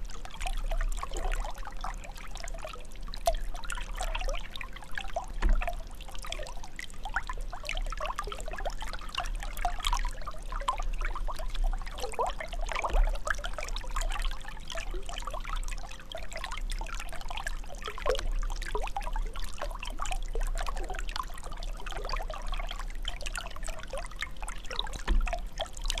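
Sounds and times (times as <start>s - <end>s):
water trickling and gurgling: 0.0s - 26.0s
bubbling and dripping blips: 0.3s - 26.0s.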